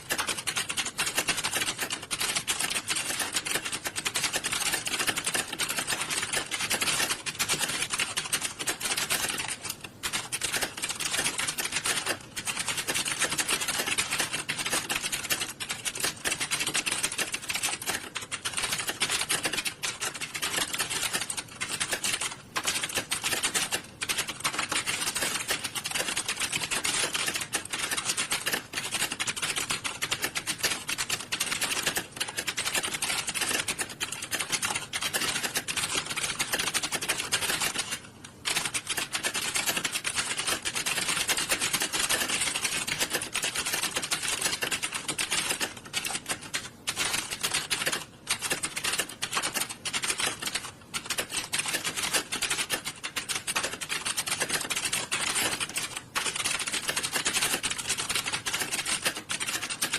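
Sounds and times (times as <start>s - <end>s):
many keyboards clattering: 0.0s - 59.9s.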